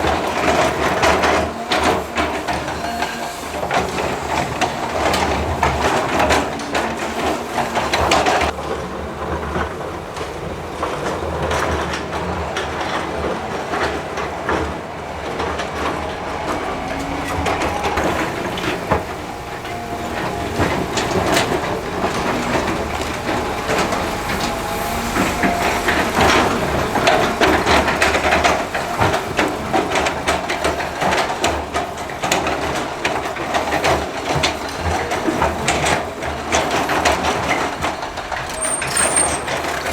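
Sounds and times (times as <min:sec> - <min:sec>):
clanking scraping crunching of stone: 0:00.0 - 0:39.9
diesel engine running: 0:00.0 - 0:39.9.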